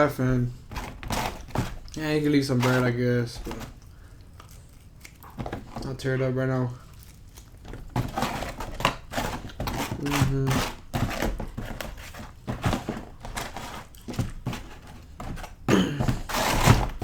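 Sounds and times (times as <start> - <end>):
crinkling and tearing: 0.0 - 17.0
person eating pizza: 0.0 - 17.0.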